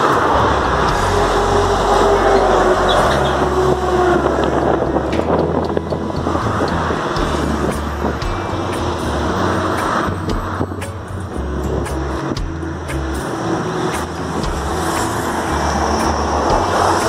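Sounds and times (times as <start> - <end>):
highway traffic rushing: 0.0 - 17.0
vehicle engine passing: 0.0 - 17.0.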